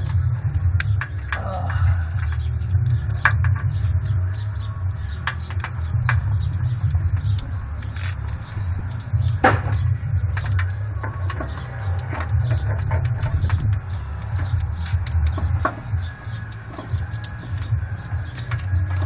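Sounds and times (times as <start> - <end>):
low rumble: 0.0 - 19.0
plastic conduit crackling and clicking: 0.0 - 19.0.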